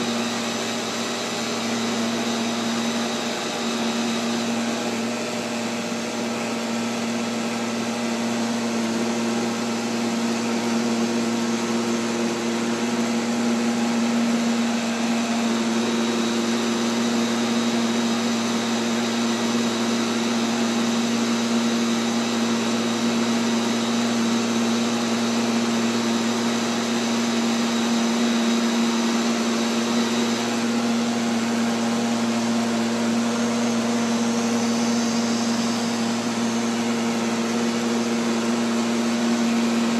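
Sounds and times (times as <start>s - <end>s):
robotic vacuum cleaner motor whir: 0.0s - 39.9s.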